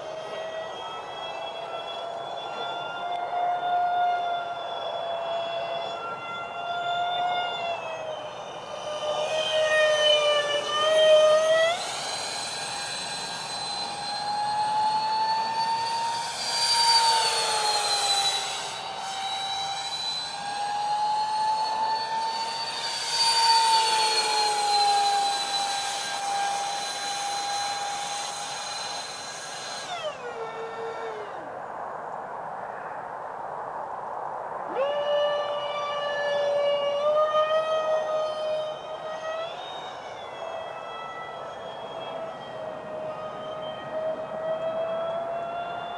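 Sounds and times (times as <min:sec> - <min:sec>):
model jet fans whining: 0:00.0 - 0:32.2, 0:34.6 - 0:45.9.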